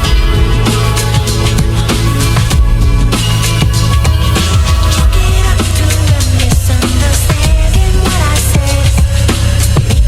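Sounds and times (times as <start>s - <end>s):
loud dance music with heavy bass: 0.0s - 10.0s.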